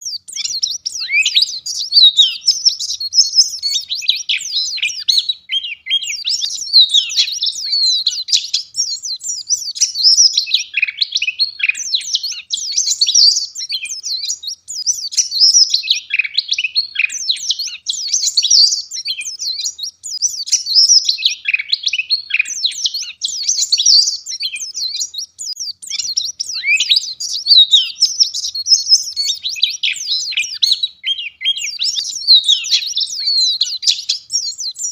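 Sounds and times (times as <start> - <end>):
white-eye bird twittering song: 0.0 - 34.9.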